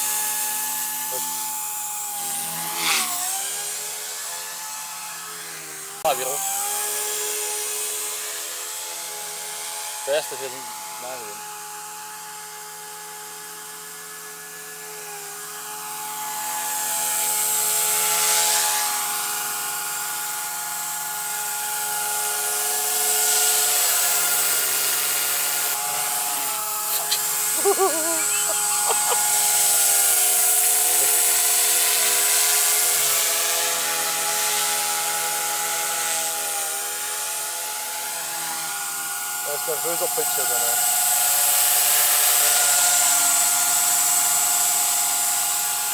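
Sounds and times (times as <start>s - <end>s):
electric motor whine: 0.0s - 45.9s.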